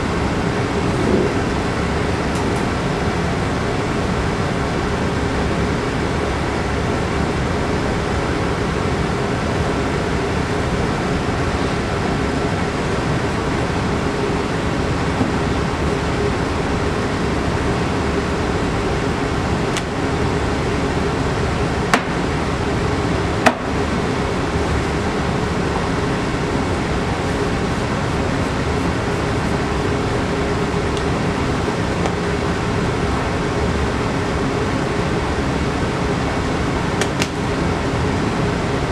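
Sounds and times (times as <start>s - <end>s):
ventilation fan hum and hiss: 0.0s - 38.9s.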